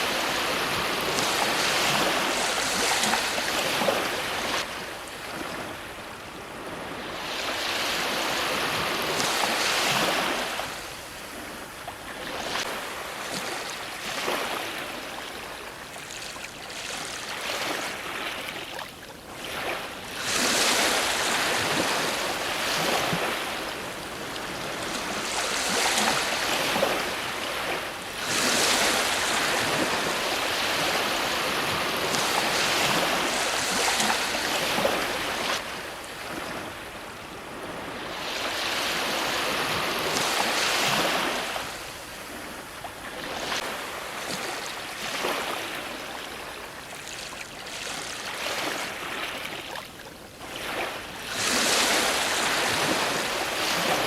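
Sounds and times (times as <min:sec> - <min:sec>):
ocean waves crashing on shore: 0:00.0 - 0:54.0.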